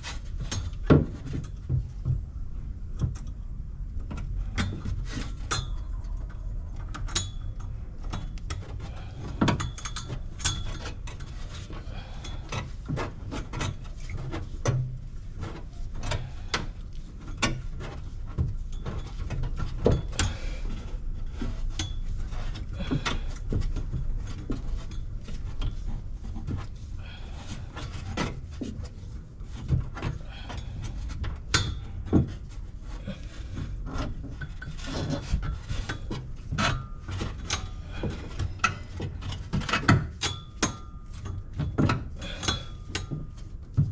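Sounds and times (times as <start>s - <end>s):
small hard parts clicking and scraping: 0.0s - 43.9s
steady low rumble: 0.0s - 43.9s.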